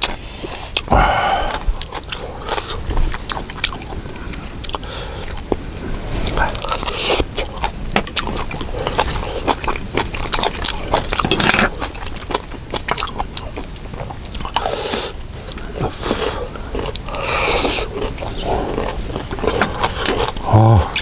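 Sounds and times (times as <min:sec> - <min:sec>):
chewing and mouth noises: 0:00.0 - 0:21.0.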